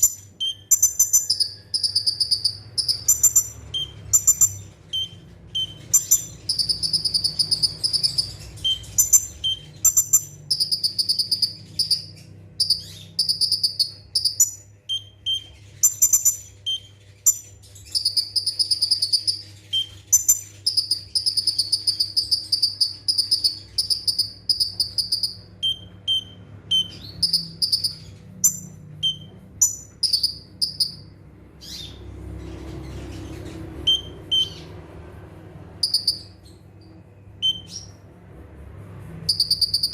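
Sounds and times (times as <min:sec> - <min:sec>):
bird chirping rapidly: 0:00.0 - 0:38.1, 0:39.2 - 0:39.9.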